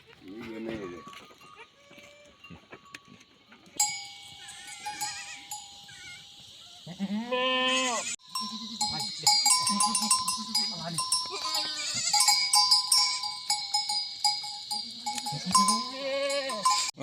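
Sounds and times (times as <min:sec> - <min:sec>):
goats bleating: 0:00.0 - 0:02.8, 0:04.3 - 0:13.3, 0:14.7 - 0:17.0
neck bells clinking: 0:00.8 - 0:06.8, 0:08.2 - 0:17.0.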